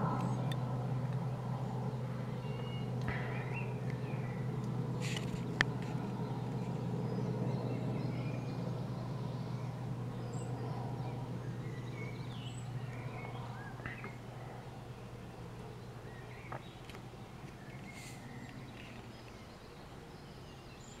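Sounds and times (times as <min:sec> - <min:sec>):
helicopter drone: 0:00.0 - 0:21.0
small birds chirping: 0:00.0 - 0:21.0.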